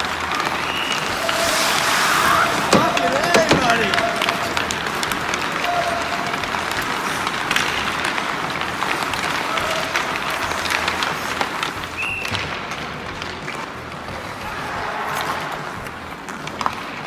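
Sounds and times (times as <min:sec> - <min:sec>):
hockey sticks clacking pucks: 0:00.0 - 0:17.0
skate blades scraping ice: 0:00.0 - 0:17.0.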